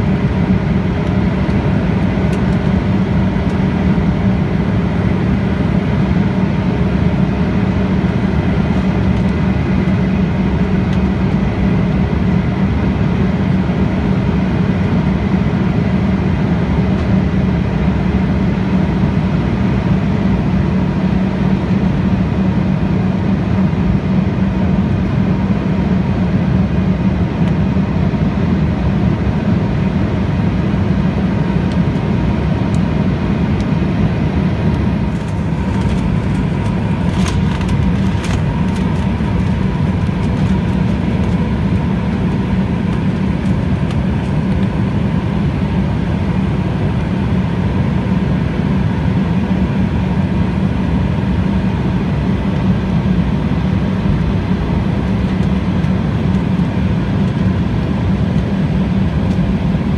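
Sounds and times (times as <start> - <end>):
faint steady whine: 0.0 - 59.9
jet engine drone: 0.0 - 59.9.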